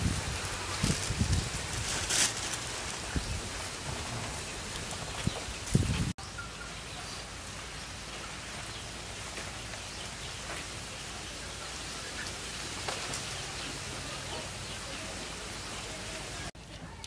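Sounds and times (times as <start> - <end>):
background hiss: 0.0 - 16.6.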